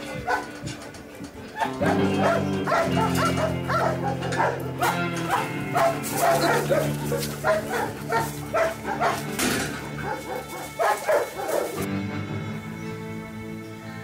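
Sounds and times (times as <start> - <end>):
dog barking: 0.0 - 0.8, 1.4 - 11.9
soft background music: 0.0 - 14.0.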